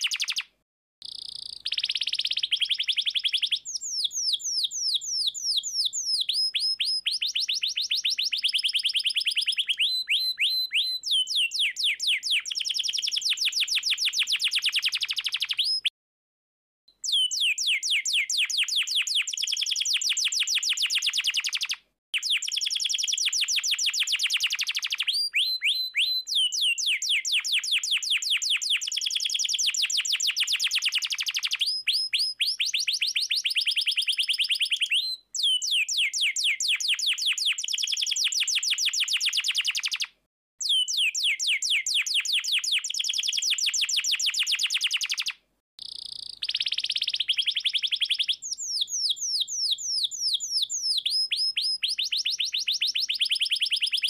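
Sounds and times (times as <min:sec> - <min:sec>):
canary singing trills: 0:00.0 - 0:15.9, 0:17.0 - 0:54.0.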